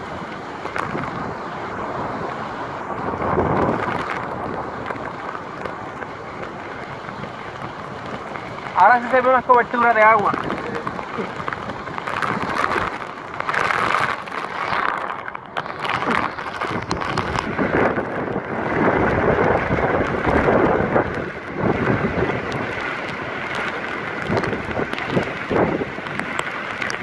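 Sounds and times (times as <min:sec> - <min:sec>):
gusting wind: 0:00.0 - 0:27.0
heavy driving rain: 0:00.0 - 0:27.0.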